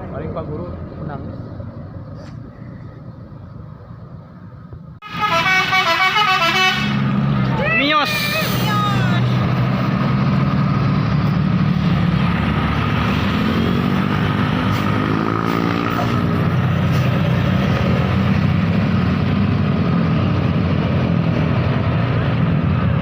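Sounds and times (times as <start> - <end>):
heavy vehicle engines: 0.0 - 23.0.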